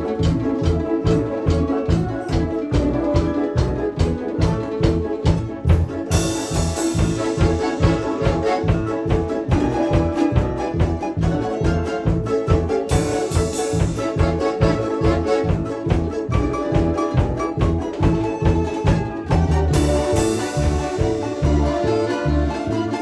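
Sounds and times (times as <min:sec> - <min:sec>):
folk instrument orchestra playing: 0:00.0 - 0:23.0.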